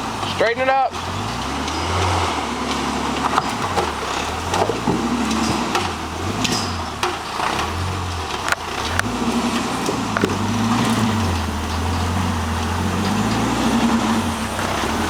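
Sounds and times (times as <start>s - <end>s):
off-road vehicle engine revving: 0.0s - 15.0s
tires knocking over rock: 0.0s - 15.0s.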